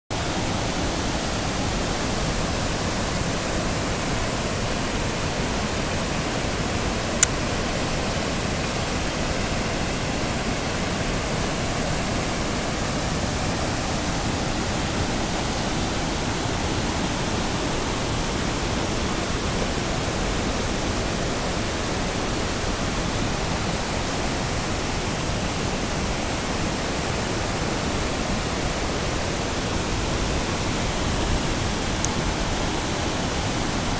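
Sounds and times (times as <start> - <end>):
river rushing over rapids: 0.1 - 33.9.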